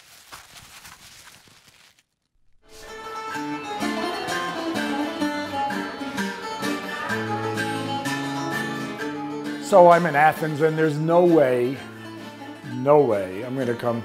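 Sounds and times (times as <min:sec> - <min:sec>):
plucked lute melody: 0:02.7 - 0:14.0.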